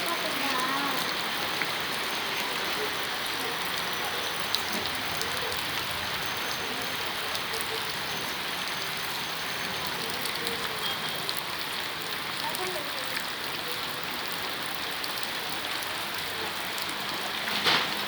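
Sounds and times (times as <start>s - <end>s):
steady rain falling: 0.0s - 18.0s
ticks of raindrops: 0.0s - 18.0s.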